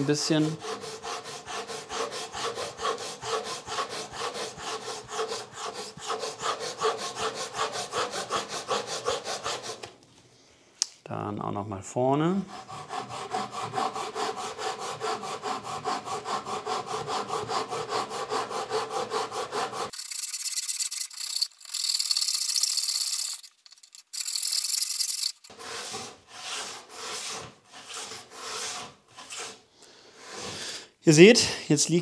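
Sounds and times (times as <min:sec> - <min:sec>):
hand saw cutting wood: 0:00.0 - 0:09.9, 0:12.3 - 0:30.8.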